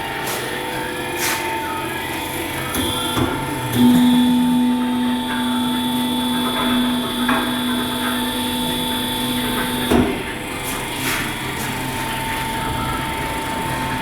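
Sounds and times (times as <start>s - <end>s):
machine motor humming: 0.0s - 14.0s.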